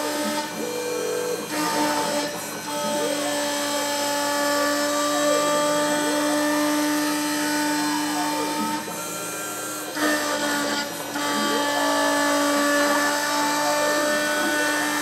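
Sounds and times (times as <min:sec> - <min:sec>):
engraving machine spindle whine: 0:00.0 - 0:15.0
gliding machine tones: 0:00.0 - 0:15.0.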